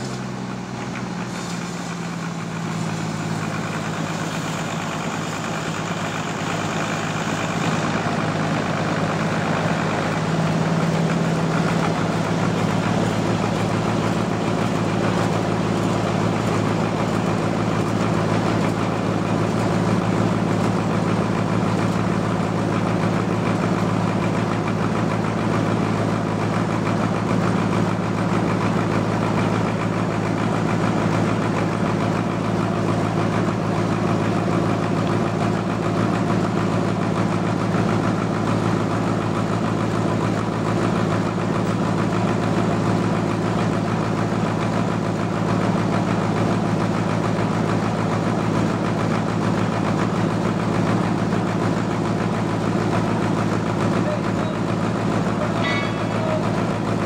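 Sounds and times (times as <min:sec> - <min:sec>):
band sawmill droning: 0:00.0 - 0:57.0.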